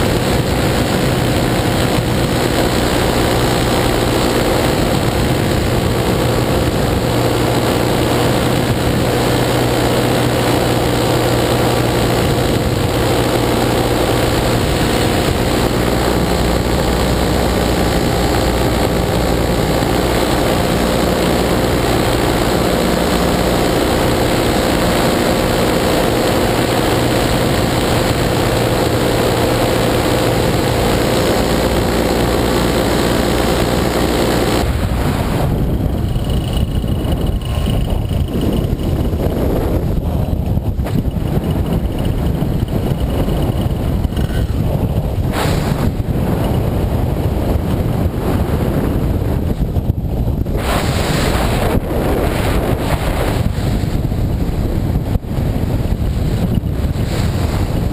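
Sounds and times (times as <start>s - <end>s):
paramotor engine droning: 0.0s - 57.9s.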